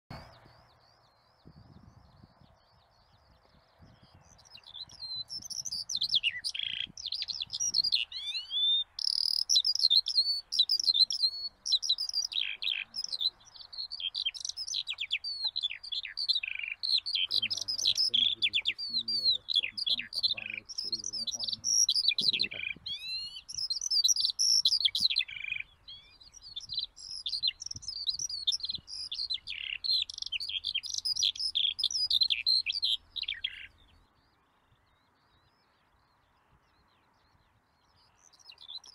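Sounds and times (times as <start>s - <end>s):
songbird singing: 0.1s - 38.9s.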